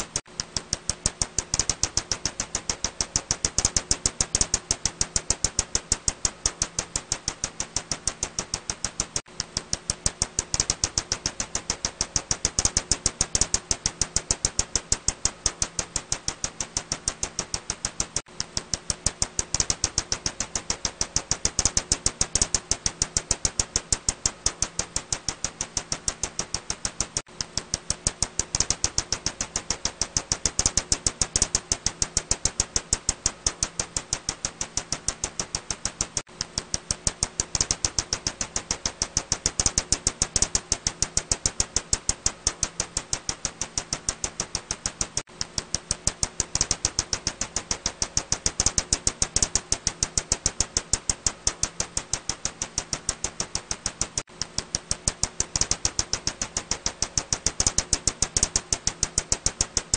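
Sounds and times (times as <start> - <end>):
bat echolocation clicks: 0.1 - 59.9.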